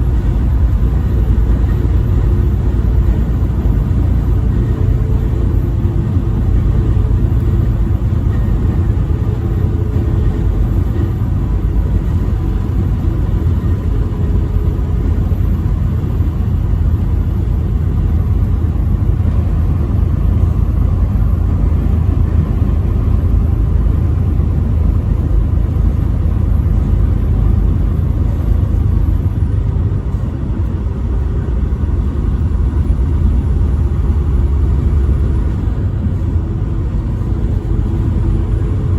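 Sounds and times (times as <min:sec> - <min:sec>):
vehicle engine and tyre rumble: 0:00.0 - 0:38.9.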